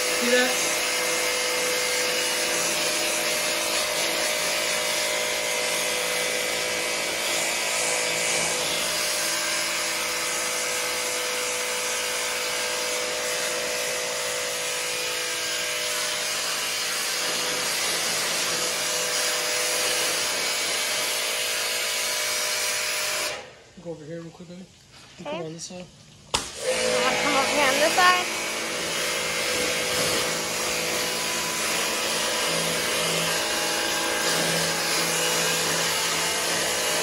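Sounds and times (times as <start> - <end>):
water jet hissing on concrete: 0.0 - 23.4, 26.4 - 37.0.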